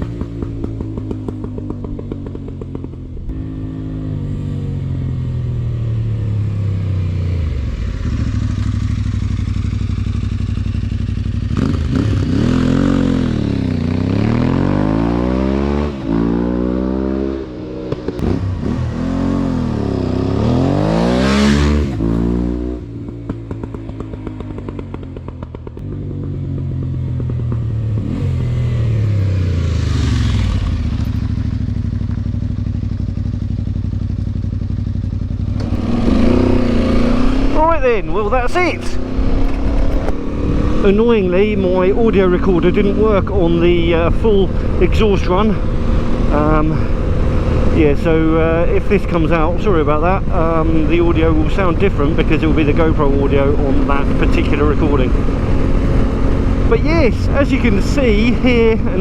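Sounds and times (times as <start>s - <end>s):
motorcycle engine running: 0.0s - 59.0s
motorcycle riding past: 0.0s - 59.0s.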